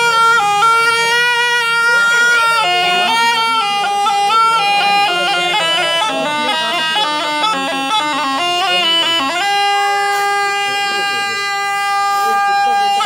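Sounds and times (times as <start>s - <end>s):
reed pipe playing: 0.0s - 13.0s.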